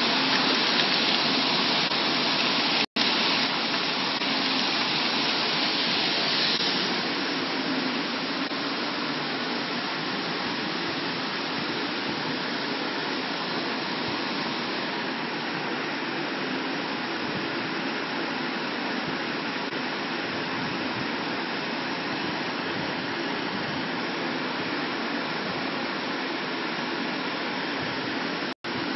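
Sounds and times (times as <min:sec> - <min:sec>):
machine fans rushing: 0:00.0 - 0:28.9.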